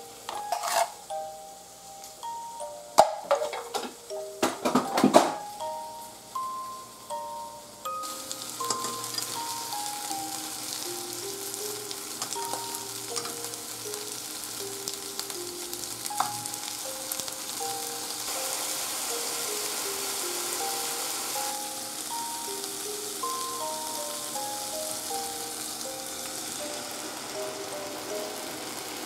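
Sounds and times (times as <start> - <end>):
patties sizzling in oil: 0.0 - 29.0
simple background melody: 0.0 - 29.0.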